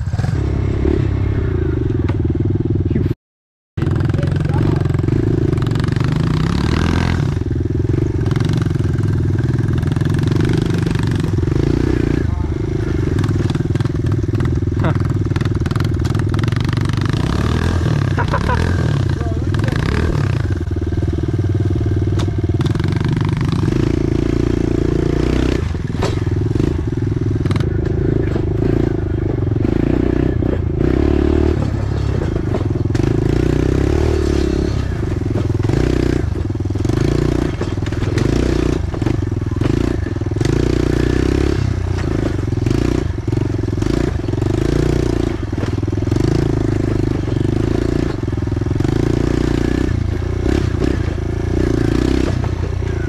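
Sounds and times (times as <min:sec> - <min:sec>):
pit bike engine revving: 0:00.0 - 0:03.2, 0:03.8 - 0:53.0
bike rattling over rough ground: 0:03.8 - 0:53.0.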